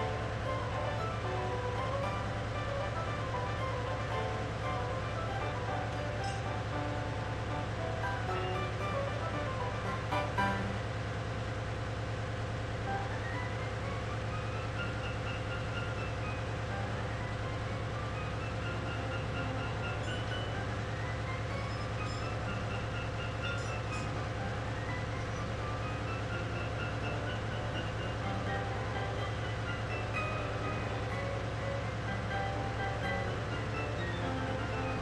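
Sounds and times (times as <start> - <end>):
background music: 0.0 - 11.3, 12.7 - 35.0
engine room machinery drone: 0.0 - 35.0.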